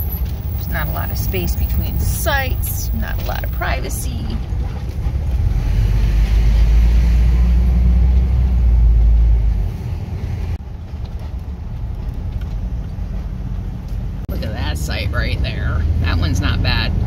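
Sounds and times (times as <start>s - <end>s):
rumble of vehicle driving on dirt road: 0.0s - 17.0s.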